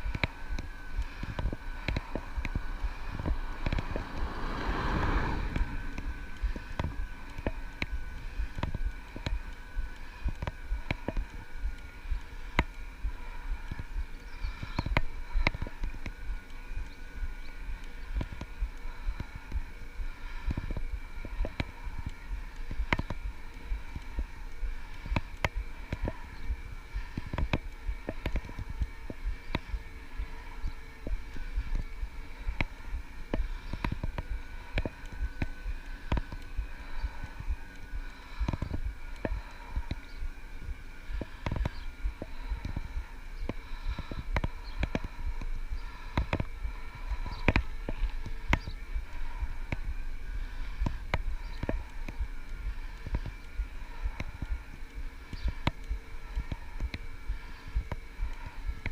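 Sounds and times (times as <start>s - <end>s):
electric motor whine: 0.0s - 58.9s
low rumble: 0.0s - 58.9s.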